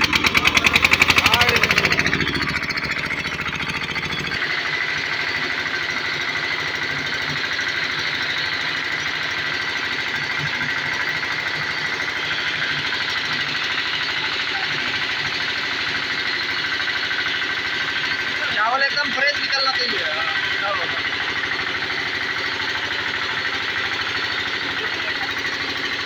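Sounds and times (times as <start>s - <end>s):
diesel engine knocking: 0.0s - 26.0s
high machinery hum: 0.0s - 26.0s.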